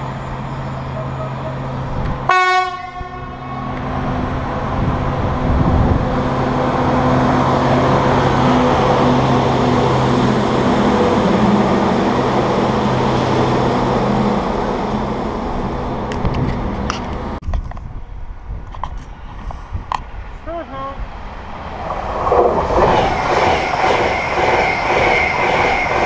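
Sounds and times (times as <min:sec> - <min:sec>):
locomotive engine drone: 0:00.0 - 0:17.4, 0:21.1 - 0:26.0.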